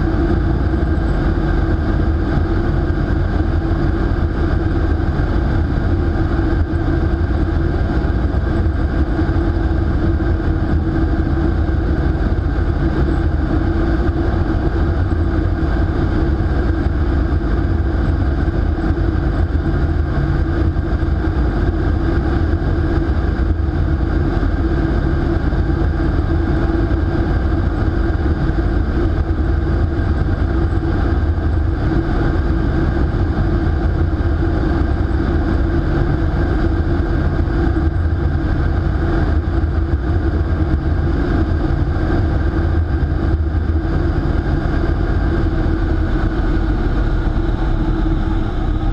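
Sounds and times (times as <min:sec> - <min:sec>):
low hum: 0:00.0 - 0:48.9
rushing air in wind tunnel: 0:00.0 - 0:48.9.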